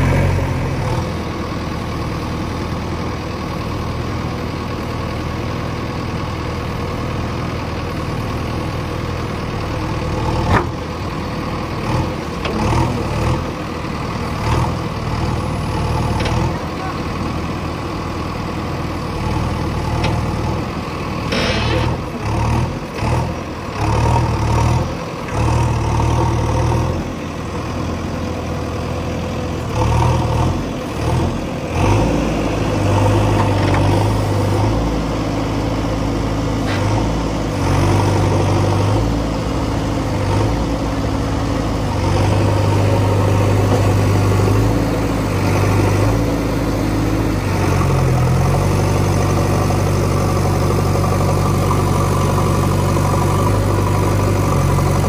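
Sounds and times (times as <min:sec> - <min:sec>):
heavy diesel engine revving: 0:00.0 - 0:04.6, 0:05.4 - 0:55.0.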